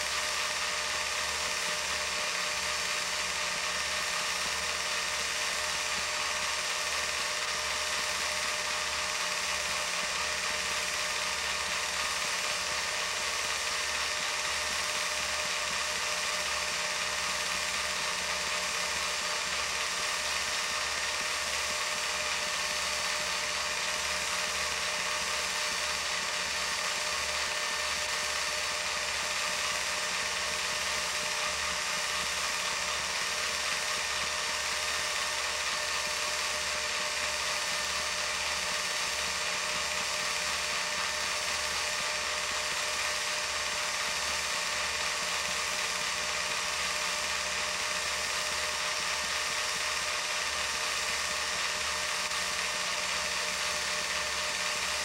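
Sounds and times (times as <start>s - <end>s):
film projector running: 0.0s - 55.0s.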